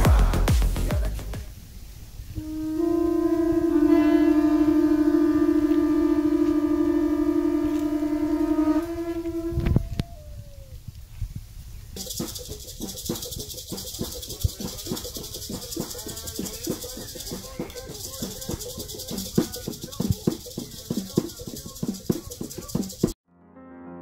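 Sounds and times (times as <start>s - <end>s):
maracas shaken: 0.0s - 23.2s
steady high hiss: 0.0s - 23.2s.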